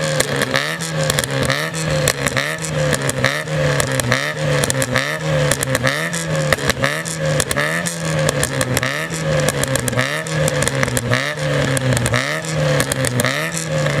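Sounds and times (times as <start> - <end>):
car engine revving: 0.0 - 14.0
exhaust pops and crackles: 0.0 - 14.0.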